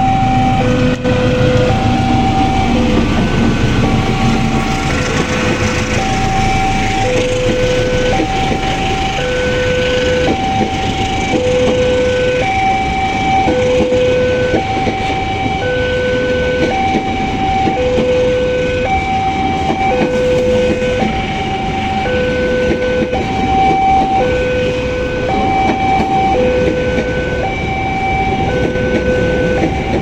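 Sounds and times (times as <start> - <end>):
level-crossing two-tone alarm: 0.0 - 30.0
steady rumbling noise: 0.0 - 30.0.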